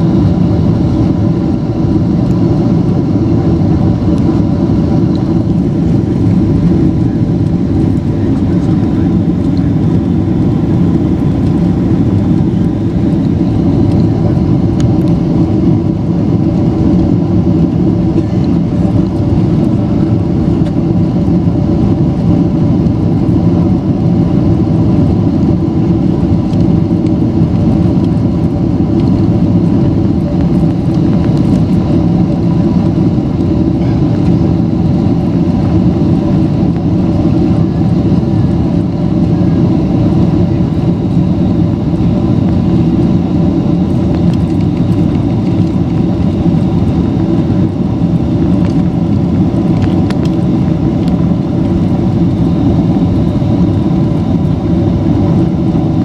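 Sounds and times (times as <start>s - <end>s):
cabin airflow rush: 0.0s - 56.0s
jet engine drone: 0.0s - 56.0s
steady engine tones: 0.0s - 56.0s.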